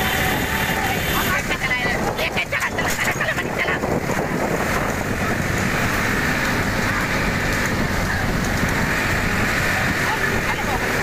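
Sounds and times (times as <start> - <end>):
road rumble: 0.0 - 11.0
wind buffeting microphone: 0.0 - 11.0.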